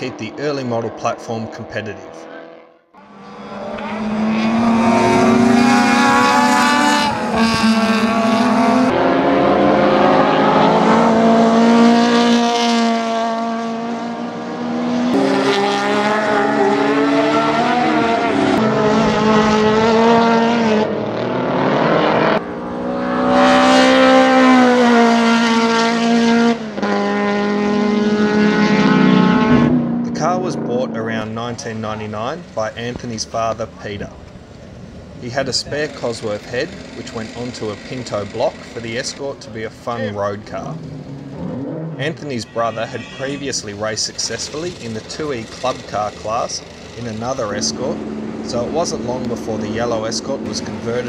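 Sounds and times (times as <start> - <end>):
race car engine at high revs: 0.0 - 51.0.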